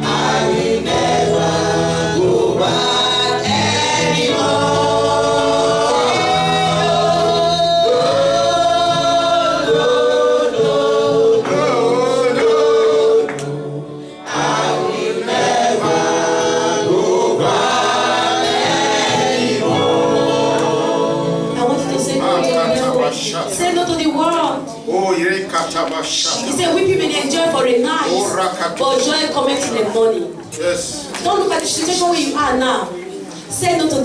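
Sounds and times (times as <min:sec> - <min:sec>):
choir singing gospel: 0:00.0 - 0:30.4
instrumental backing: 0:00.0 - 0:34.0.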